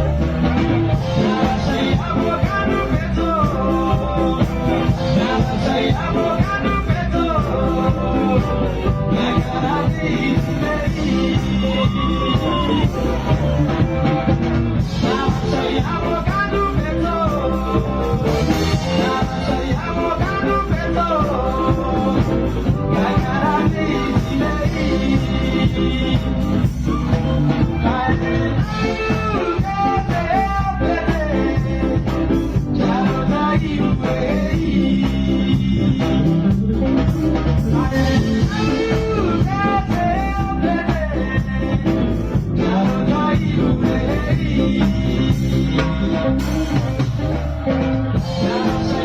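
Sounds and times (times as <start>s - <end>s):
guitar: 0.0s - 49.0s
person singing over a band: 0.0s - 49.0s
steady drum beat: 0.0s - 49.0s.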